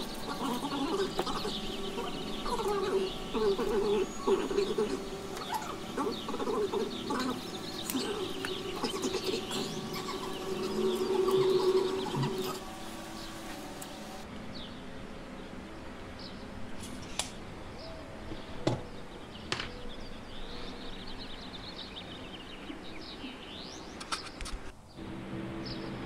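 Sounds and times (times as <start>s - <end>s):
small birds chirping: 0.0s - 16.6s, 17.7s - 25.0s, 25.6s - 26.0s
steady low hum: 0.0s - 24.0s, 24.9s - 26.0s.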